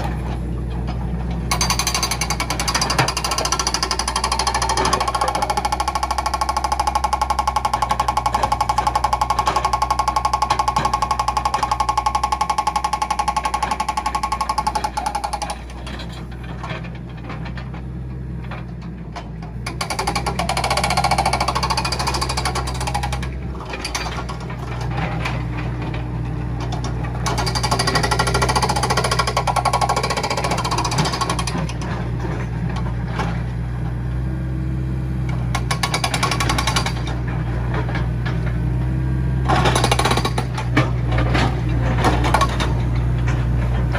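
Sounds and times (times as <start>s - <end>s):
backhoe loader engine clattering: 0.0s - 43.9s.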